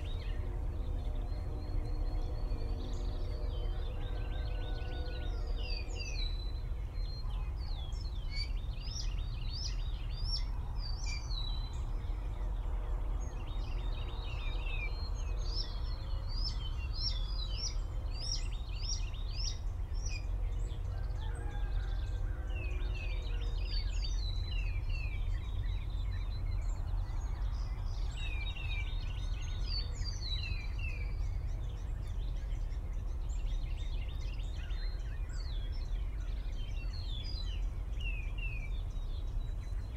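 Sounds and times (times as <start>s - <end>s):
steady low rumble: 0.0s - 21.2s, 22.0s - 39.9s
songbirds chirping: 0.0s - 39.9s.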